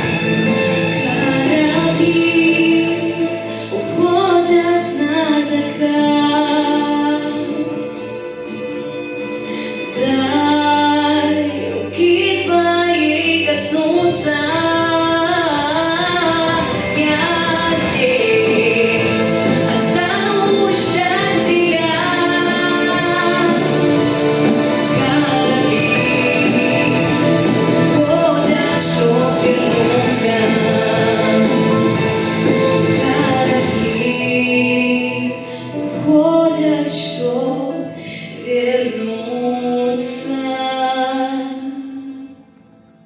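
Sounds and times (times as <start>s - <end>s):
instrumental backing track: 0.0s - 40.5s
person singing: 0.0s - 42.4s
musical accompaniment: 0.0s - 43.0s.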